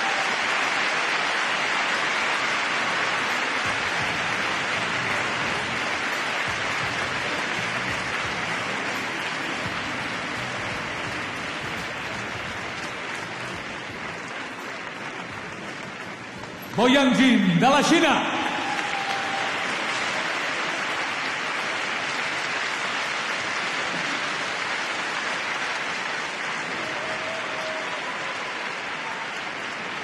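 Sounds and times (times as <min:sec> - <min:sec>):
audience applauding: 0:00.0 - 0:30.0.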